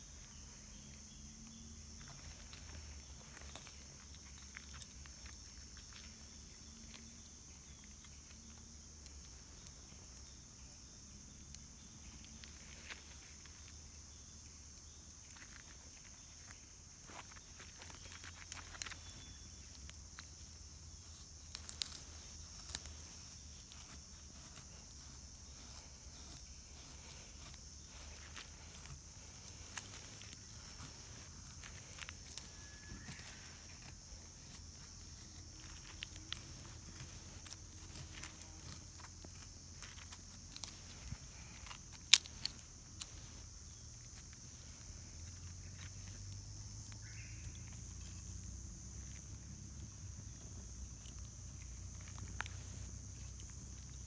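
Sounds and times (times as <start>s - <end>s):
high-pitched insect chorus: 0.0s - 54.0s
wood fire crackling and popping: 1.7s - 46.2s.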